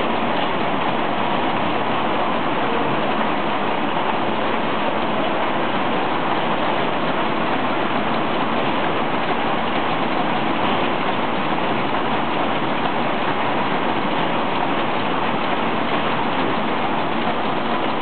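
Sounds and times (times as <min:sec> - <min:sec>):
book-sewing machine running: 0:00.0 - 0:18.0.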